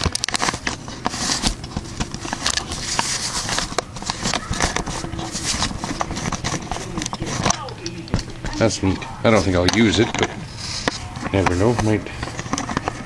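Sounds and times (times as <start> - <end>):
bubble wrap crinkling and crackling: 0.0 - 13.0.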